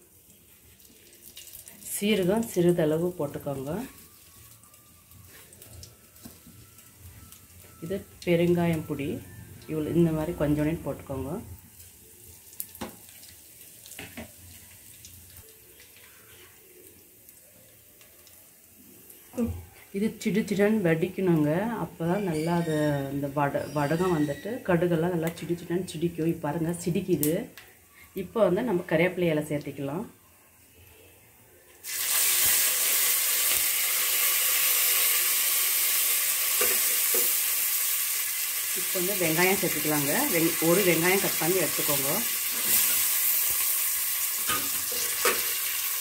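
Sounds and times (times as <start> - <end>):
hot oil sizzling in pot: 0.0 - 27.6, 31.8 - 46.0.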